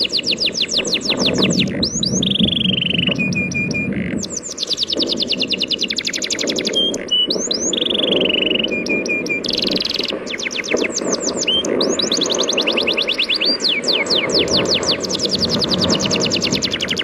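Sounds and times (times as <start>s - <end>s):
bird whistles: 0.0s - 17.0s
small birds chirping: 0.0s - 17.0s.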